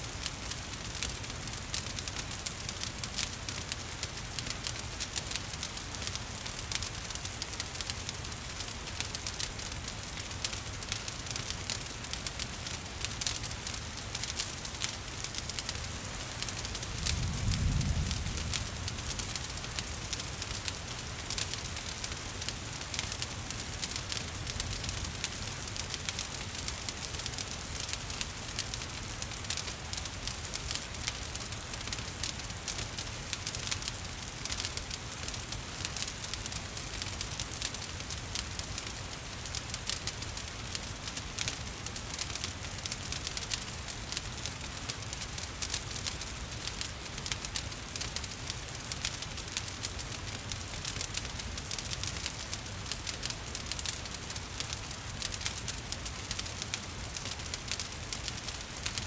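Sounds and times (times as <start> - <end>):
rain hiss: 0.0 - 59.0
wood fire crackling: 0.0 - 59.0.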